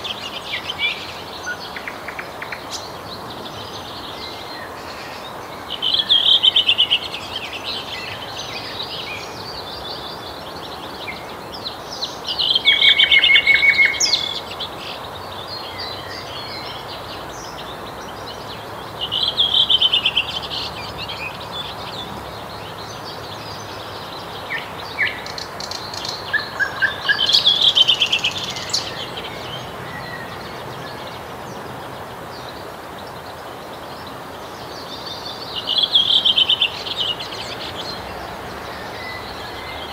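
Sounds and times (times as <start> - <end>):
nightingale singing trilled notes: 0.0 - 39.9
steady background hiss: 0.0 - 39.9.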